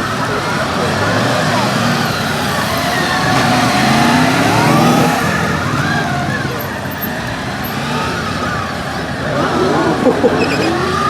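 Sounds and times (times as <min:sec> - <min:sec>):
police motorcycle engines revving: 0:00.0 - 0:11.0.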